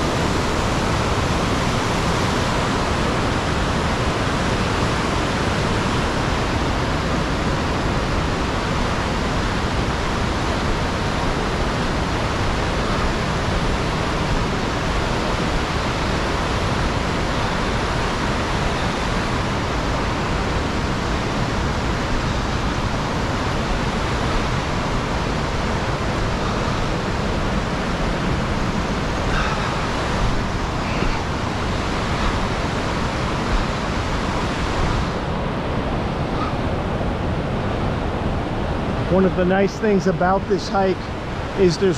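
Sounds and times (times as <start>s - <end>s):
river rapids roaring: 0.0s - 41.9s.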